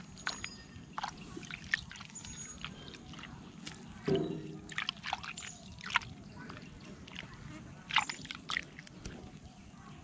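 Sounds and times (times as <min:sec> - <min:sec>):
wet sloshing and squelching: 0:00.0 - 0:09.4.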